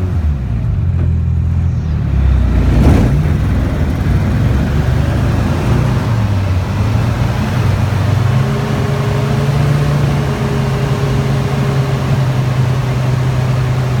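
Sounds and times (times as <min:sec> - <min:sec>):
light aircraft engine droning: 0:00.0 - 0:14.0.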